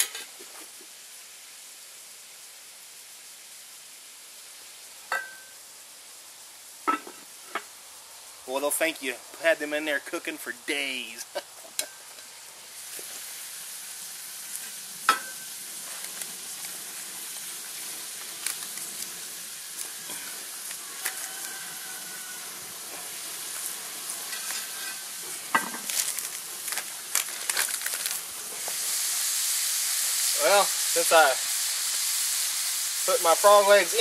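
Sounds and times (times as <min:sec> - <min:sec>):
frog legs sizzling in oil: 0:00.0 - 0:34.0.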